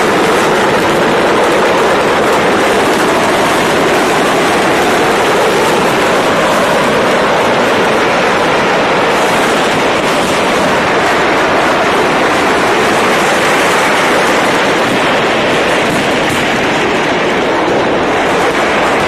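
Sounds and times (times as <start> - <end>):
firecrackers crackling roar: 0.0 - 19.0.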